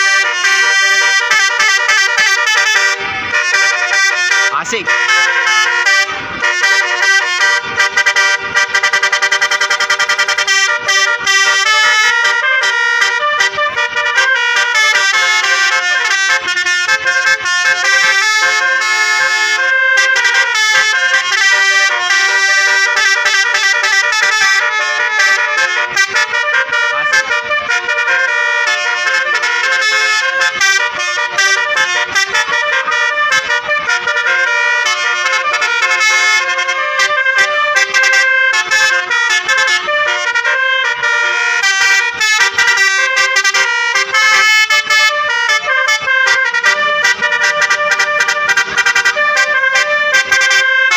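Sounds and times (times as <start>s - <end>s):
musical bus air horns: 0.0s - 50.9s.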